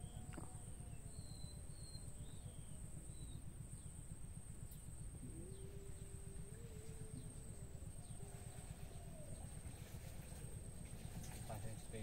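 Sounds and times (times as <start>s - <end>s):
insect drone: 0.0s - 12.0s
low rumble: 0.0s - 12.0s.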